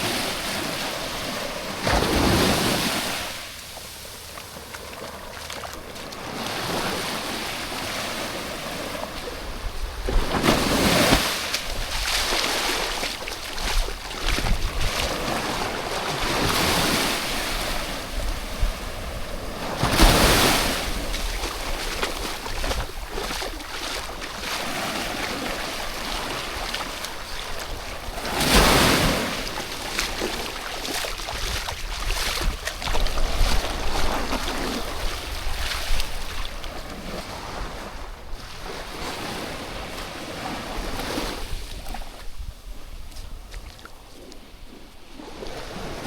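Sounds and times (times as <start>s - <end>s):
sea waves breaking on beach: 0.0s - 46.0s
wind buffeting microphone: 8.4s - 46.0s.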